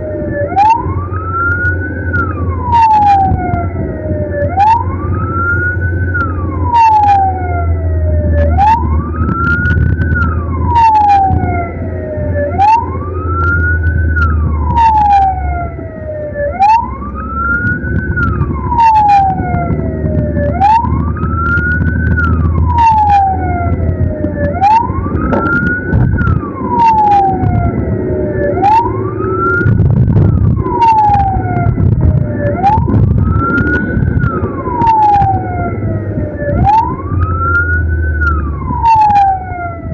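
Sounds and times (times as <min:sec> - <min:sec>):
ambulance siren wailing: 0:00.0 - 0:39.9
vehicle driving rumble: 0:00.0 - 0:39.9.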